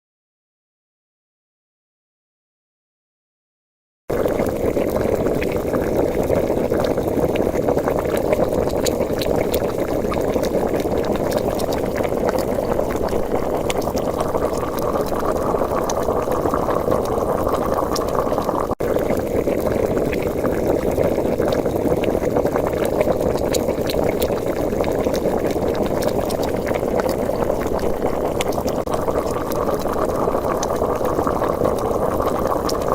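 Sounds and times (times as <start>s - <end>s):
stew bubbling in pot: 4.1s - 32.9s.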